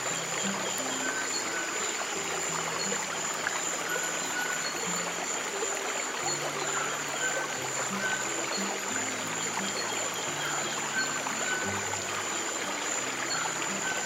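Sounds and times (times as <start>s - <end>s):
stream water rushing and trickling: 0.0s - 14.0s.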